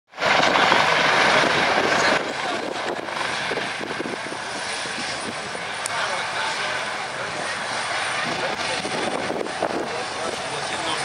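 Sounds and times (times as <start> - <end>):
helicopter engines and rotors: 0.1 - 11.0.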